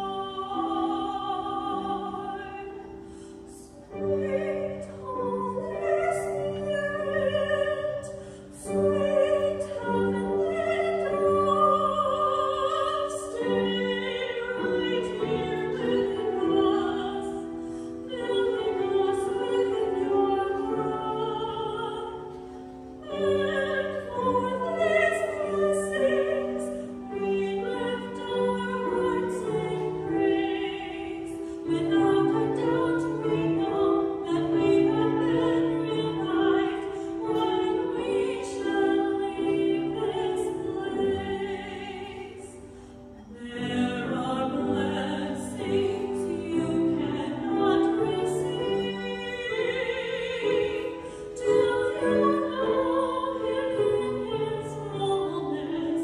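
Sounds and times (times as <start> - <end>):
classical singing with vibrato: 0.0 - 56.0.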